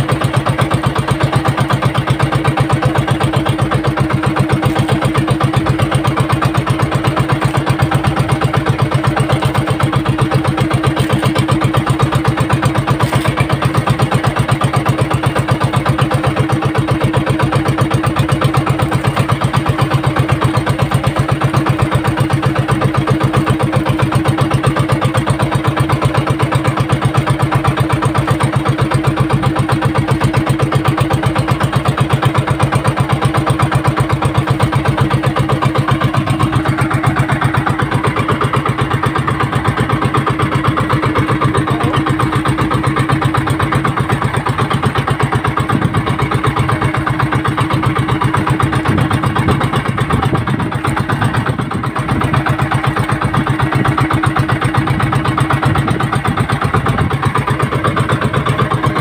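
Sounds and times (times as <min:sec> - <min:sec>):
boat engine pulsing: 0:00.0 - 0:59.0.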